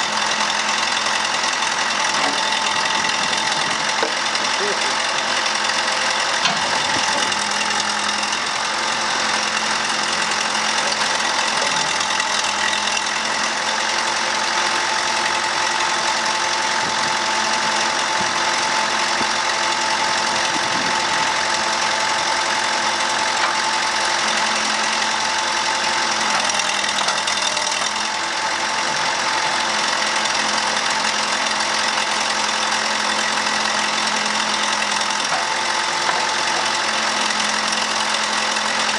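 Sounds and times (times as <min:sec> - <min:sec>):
backhoe engine running: 0:00.0 - 0:38.9.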